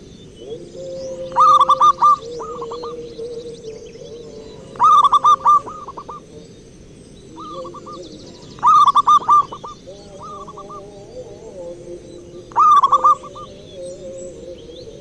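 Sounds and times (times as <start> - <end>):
faint high bird chirps: 0.0 - 6.3, 7.1 - 11.4, 12.4 - 15.0
soft wavering dove call: 0.0 - 6.6, 7.2 - 15.0
doves cooing staccato: 0.0 - 15.0.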